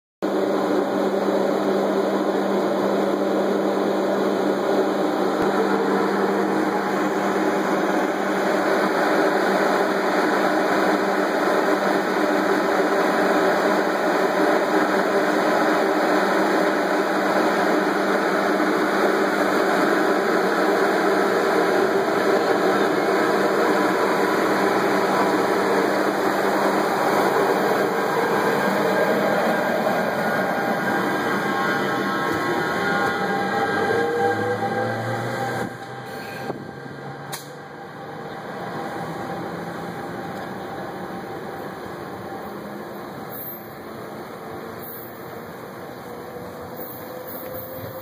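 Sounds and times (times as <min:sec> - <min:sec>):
locomotive mechanical drone: 0:00.2 - 0:48.0.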